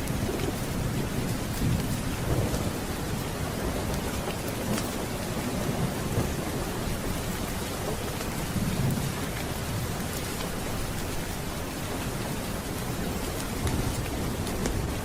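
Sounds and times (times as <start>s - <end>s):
low rumble of thunder: 0.0s - 15.0s
steady rain: 0.0s - 15.0s.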